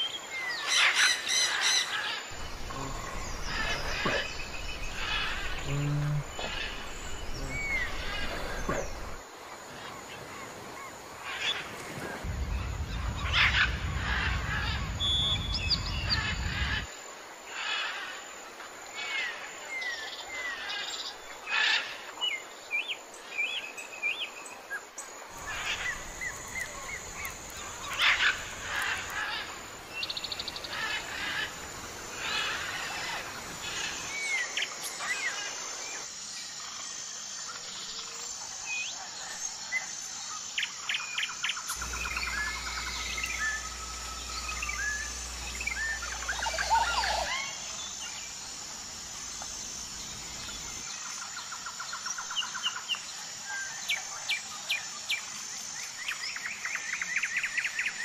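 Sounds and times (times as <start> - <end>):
wild birds chirping: 0.0 - 58.0.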